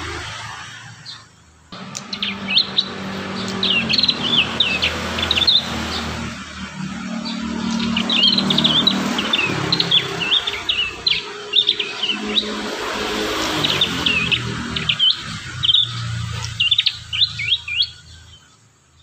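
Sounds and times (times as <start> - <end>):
bird chirping in quick runs: 1.0 - 18.5.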